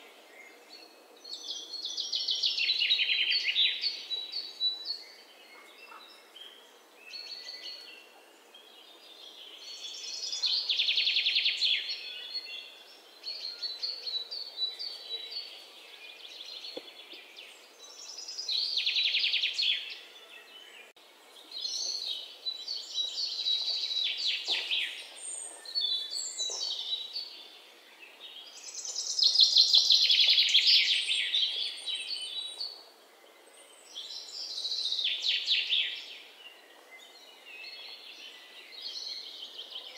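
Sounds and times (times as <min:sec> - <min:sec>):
bird chirps: 0:00.0 - 0:32.8
songbirds trilling: 0:00.0 - 0:39.9.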